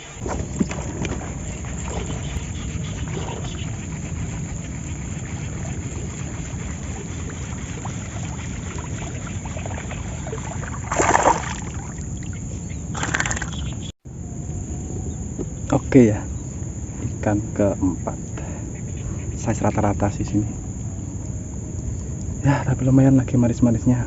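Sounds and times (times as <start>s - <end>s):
boat engine rumble: 0.0s - 23.3s.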